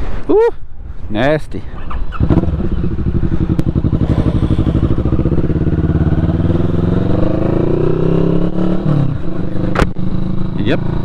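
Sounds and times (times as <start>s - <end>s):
motorcycle engine accelerating: 1.8s - 11.0s.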